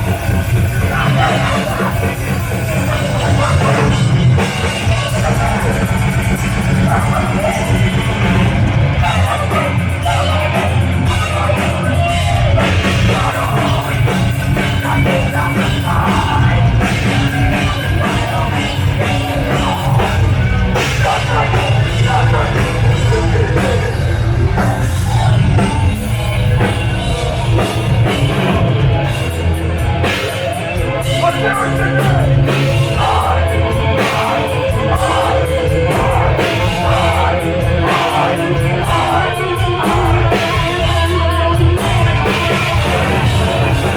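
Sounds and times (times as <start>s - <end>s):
heavy metal band playing: 0.0s - 43.9s
person singing: 0.0s - 43.9s.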